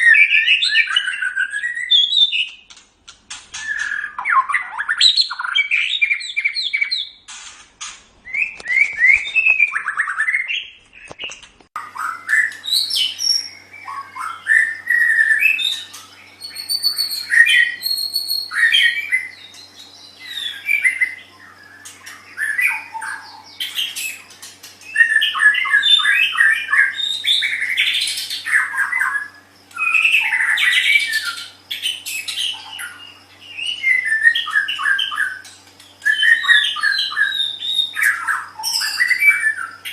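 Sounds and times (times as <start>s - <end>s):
songbird singing: 0.0s - 2.7s, 3.5s - 7.3s, 8.2s - 39.9s.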